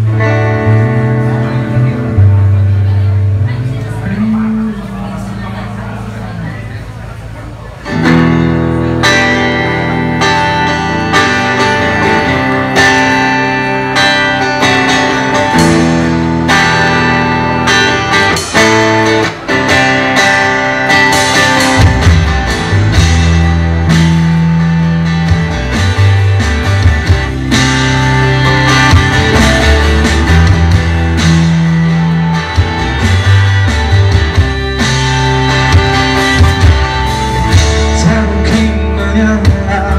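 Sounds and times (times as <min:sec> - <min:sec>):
bass guitar: 0:00.0 - 0:39.9
electric guitar: 0:00.0 - 0:39.9.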